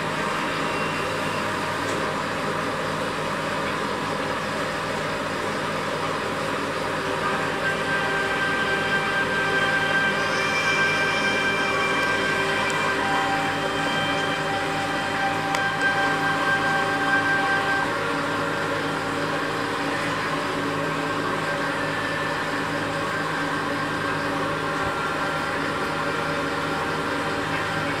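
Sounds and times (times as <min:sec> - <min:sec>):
high-pitched whine: 0:00.0 - 0:28.0
mechanical hum: 0:00.0 - 0:28.0.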